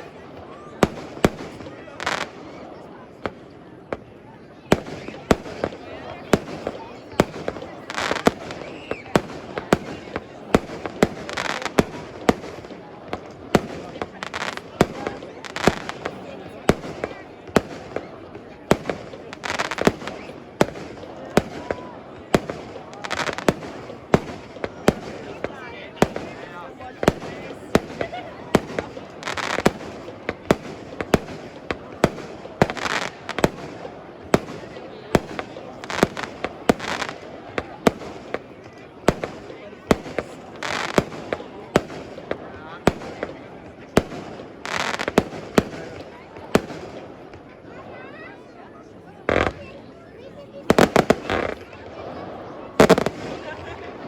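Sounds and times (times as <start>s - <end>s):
fireworks bangs: 0.0s - 47.5s, 49.3s - 49.7s, 50.6s - 54.0s
small firework pops: 0.8s - 2.6s, 3.2s - 47.6s, 49.3s - 49.8s, 50.6s - 52.0s, 52.8s - 54.0s.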